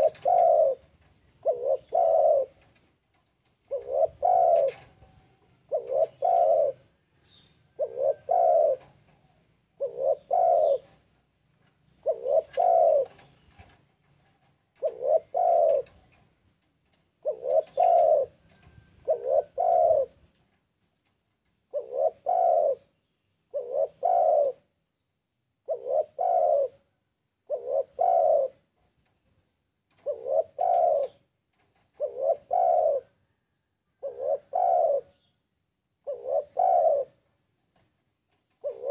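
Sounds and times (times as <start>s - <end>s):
dove cooing: 0.0s - 16.3s, 17.1s - 20.5s, 21.7s - 24.8s, 25.6s - 28.8s, 29.9s - 35.4s, 36.0s - 37.5s, 38.5s - 38.9s.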